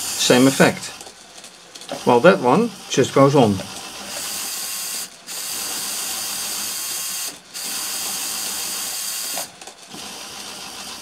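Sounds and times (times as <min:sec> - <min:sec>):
electric motors whirring: 0:00.0 - 0:11.0.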